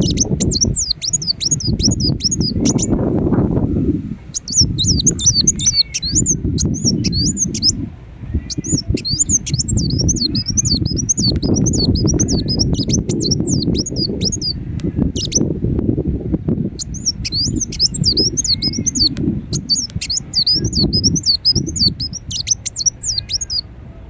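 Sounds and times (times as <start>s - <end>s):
bird singing high chirps: 0.0s - 3.1s, 4.3s - 15.4s, 16.8s - 23.7s
low rumbling noise: 0.0s - 22.4s.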